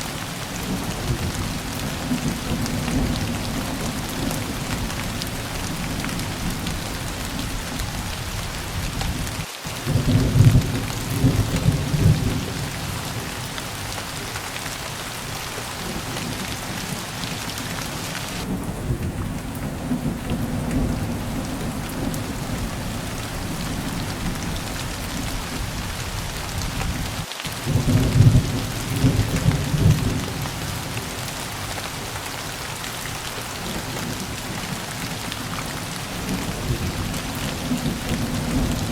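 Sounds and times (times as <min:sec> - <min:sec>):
heavy rain hissing: 0:00.0 - 0:38.9
low rolls of thunder: 0:00.4 - 0:32.2, 0:33.2 - 0:38.9.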